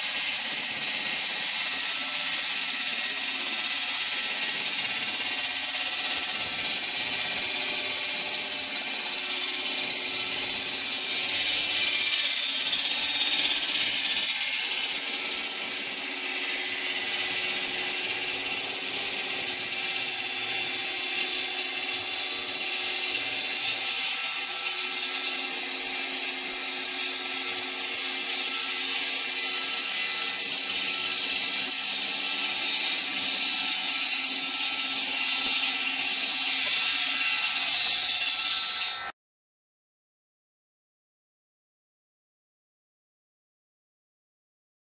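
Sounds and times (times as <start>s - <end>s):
stone saw cutting: 0.0s - 39.2s.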